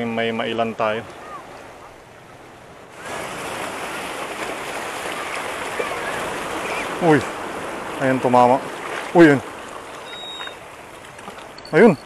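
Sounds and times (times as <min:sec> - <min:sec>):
waves splashing over rocks: 0:00.0 - 0:12.0.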